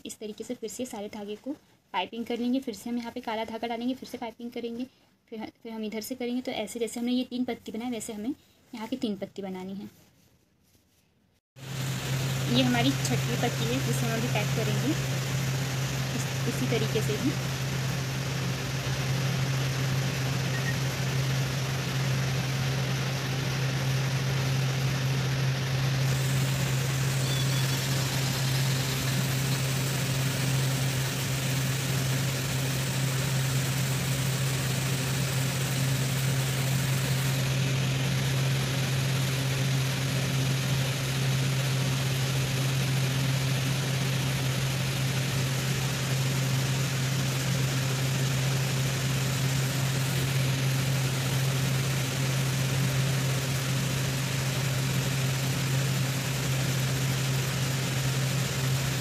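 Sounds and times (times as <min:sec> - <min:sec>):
low machine hum: 0:11.6 - 0:59.0.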